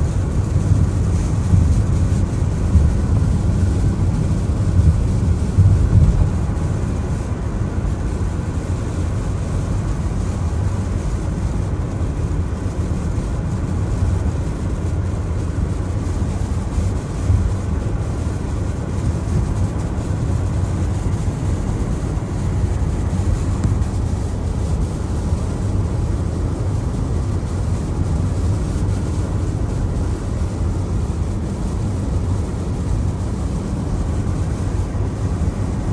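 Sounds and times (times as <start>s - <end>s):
car driving on wet road: 0.0s - 35.9s.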